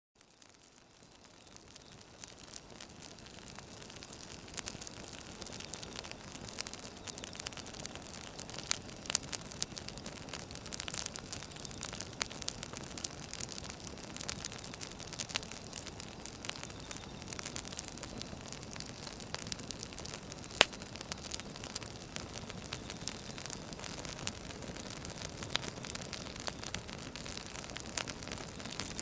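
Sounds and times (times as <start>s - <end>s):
firewood crackling: 0.2s - 29.0s.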